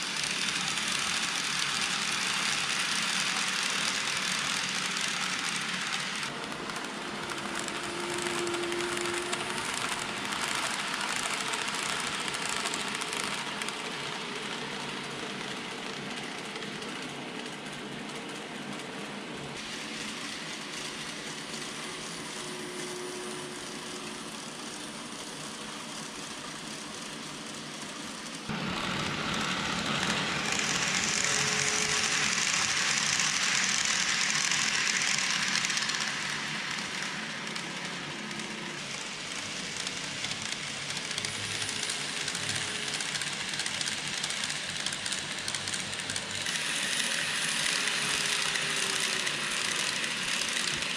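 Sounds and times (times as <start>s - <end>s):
model train wheels hissing: 0.0s - 17.6s, 19.6s - 50.9s.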